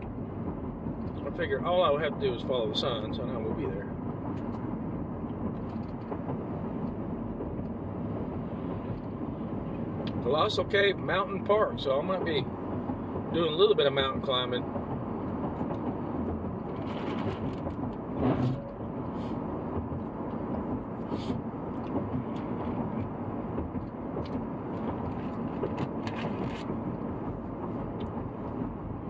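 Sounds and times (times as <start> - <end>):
road and engine noise in cabin: 0.0 - 29.0.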